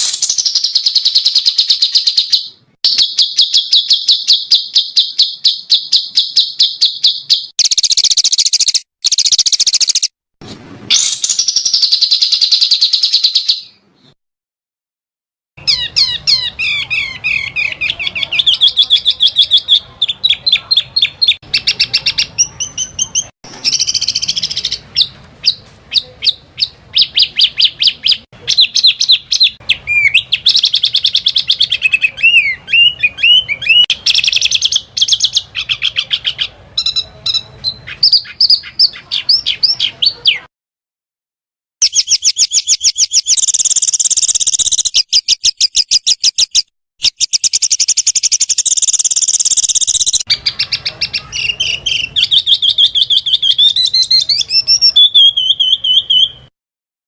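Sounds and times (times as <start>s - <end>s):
songbirds singing rapid trills: 0.0s - 10.1s, 15.6s - 40.4s, 41.8s - 56.5s.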